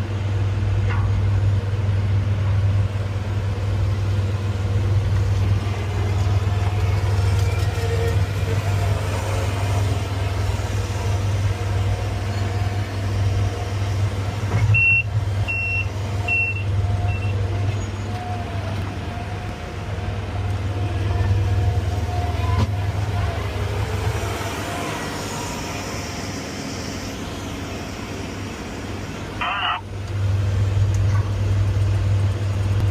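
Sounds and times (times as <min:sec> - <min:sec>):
crane engine humming: 0:00.0 - 0:32.9.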